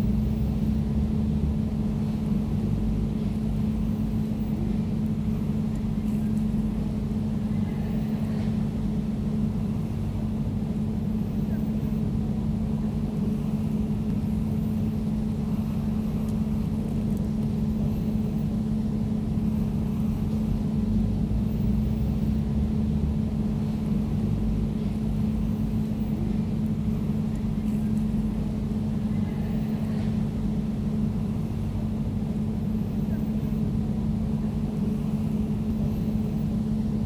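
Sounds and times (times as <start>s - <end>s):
air conditioner humming: 0.0s - 37.0s.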